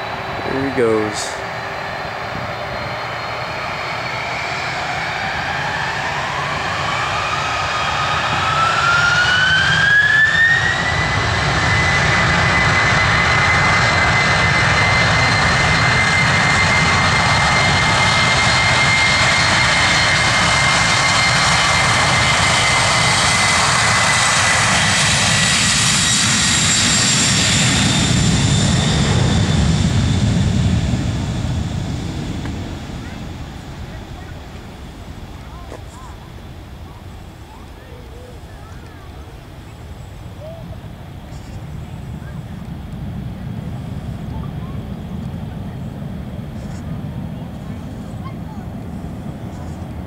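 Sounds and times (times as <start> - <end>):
jet engines spooling up: 0.0 - 50.0.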